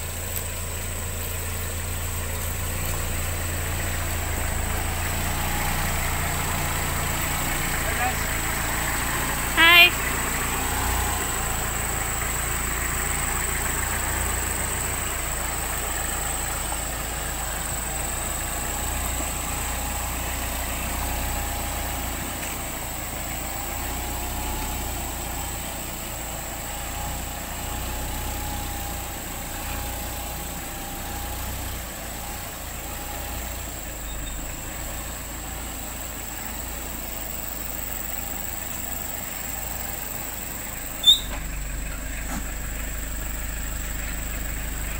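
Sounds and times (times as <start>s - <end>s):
vehicle engine idling: 0.0s - 44.9s.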